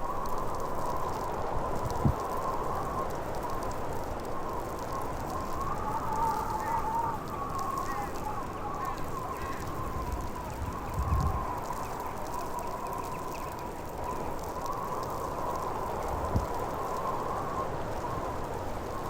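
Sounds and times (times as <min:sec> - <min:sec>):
blizzard wind whistling: 0:00.0 - 0:19.0.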